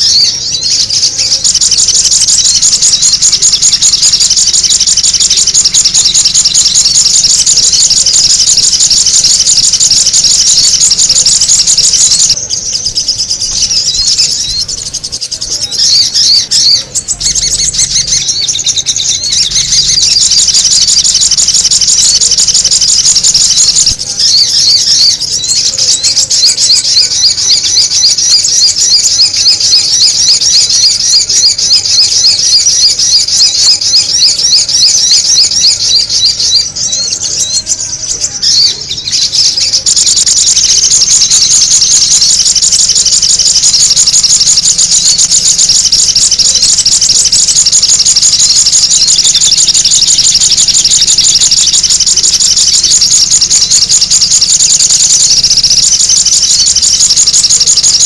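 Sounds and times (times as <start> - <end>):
high-pitched bird lure chirping: 0.0 - 58.0.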